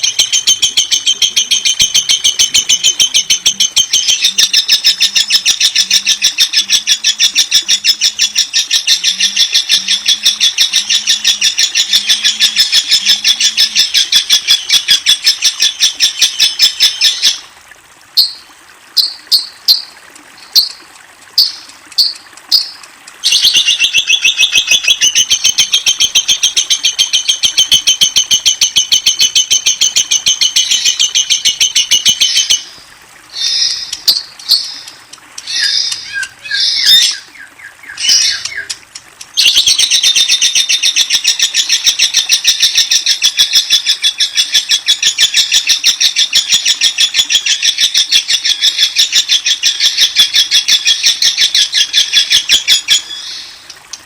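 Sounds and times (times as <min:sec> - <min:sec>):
lovebird chattering chirps: 0:00.0 - 0:17.4, 0:21.4 - 0:32.7, 0:33.4 - 0:53.5.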